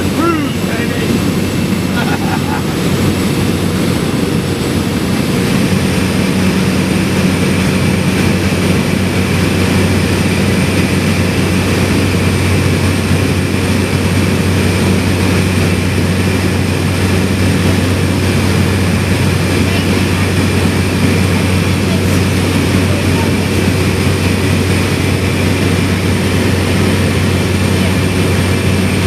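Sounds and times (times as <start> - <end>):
propeller plane engine drone: 0.0 - 29.0.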